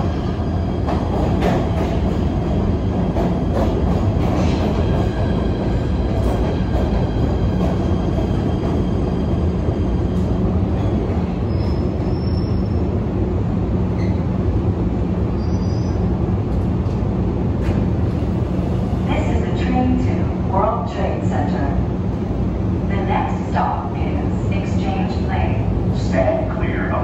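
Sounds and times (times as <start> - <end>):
train rumble with motor hum: 0.0 - 27.0.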